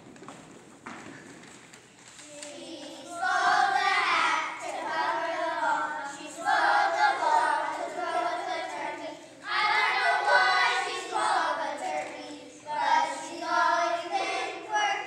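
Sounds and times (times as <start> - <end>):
children singing in unison: 2.5 - 15.0.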